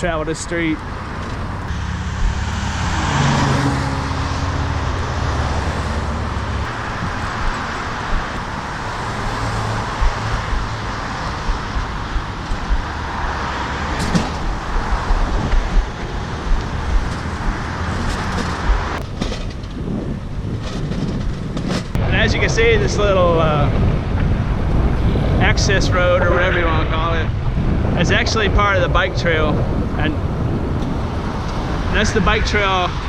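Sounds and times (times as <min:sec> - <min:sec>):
tyre and road noise: 0:00.0 - 0:33.0
vehicle engine droning: 0:00.0 - 0:33.0.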